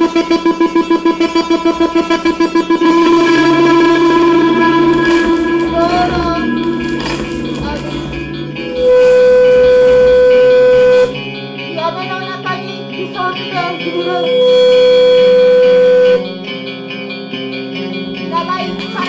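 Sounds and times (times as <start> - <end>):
loud steady pitched tone: 0.0 - 16.9
experimental guitar and turntable music: 0.0 - 19.0.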